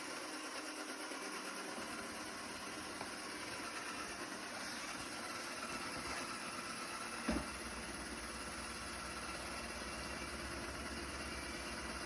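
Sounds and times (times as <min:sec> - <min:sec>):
robot vacuum cleaner whirring: 0:00.0 - 0:12.0.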